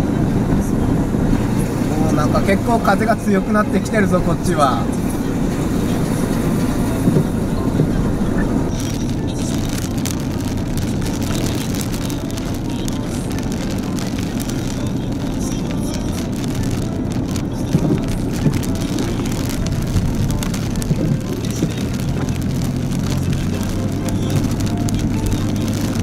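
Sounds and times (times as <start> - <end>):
engine and wet tyres rumble: 0.0 - 26.0
rain hitting windshield: 0.0 - 26.0.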